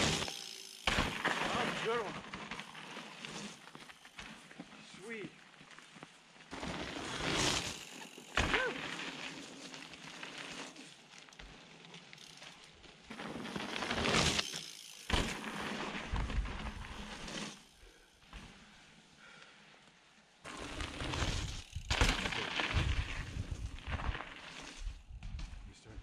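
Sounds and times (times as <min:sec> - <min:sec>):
bike tyres crunching on gravel: 0:00.0 - 0:19.4, 0:20.0 - 0:26.0.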